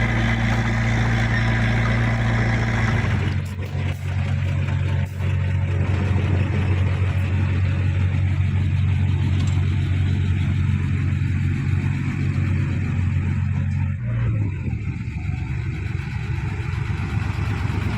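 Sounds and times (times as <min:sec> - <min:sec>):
heavy diesel engine running: 0:00.0 - 0:17.9.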